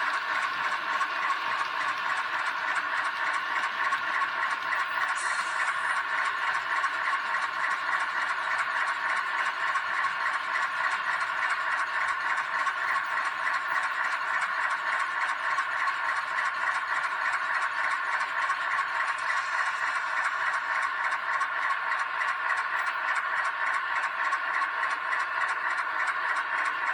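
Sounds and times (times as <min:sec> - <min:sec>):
model train motor whirring: 0:00.0 - 0:26.9.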